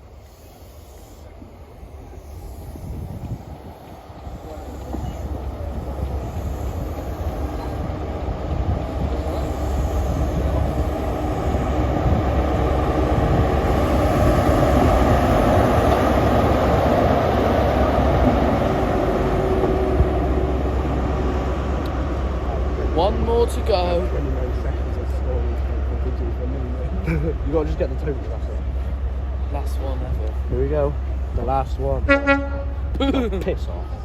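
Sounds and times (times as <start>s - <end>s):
coaches rumbling on rails: 0.0s - 34.0s.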